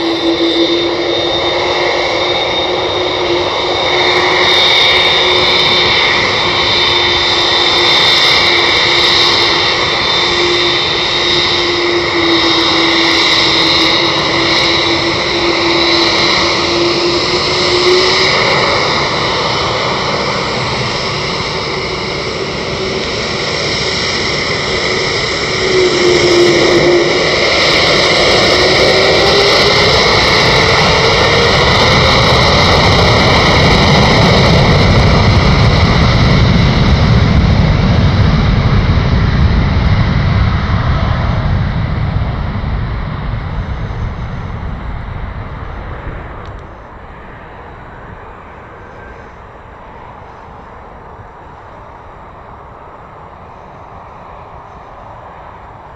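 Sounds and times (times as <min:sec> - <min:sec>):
deep engine rumble: 0:00.0 - 0:55.9
jet engines whining: 0:00.0 - 0:55.9.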